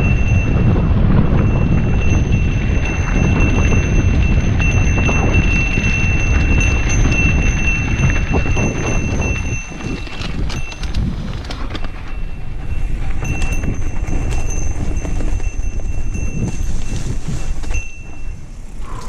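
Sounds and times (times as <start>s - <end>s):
bike rattling over bumps: 0.0s - 19.0s
bike tyres rumbling on dirt: 0.0s - 19.0s
wind on camera: 0.0s - 19.0s.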